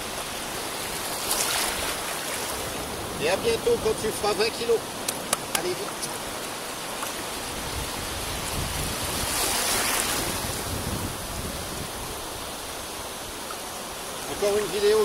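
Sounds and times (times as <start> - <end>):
seawater washing and lapping: 0.0 - 15.0.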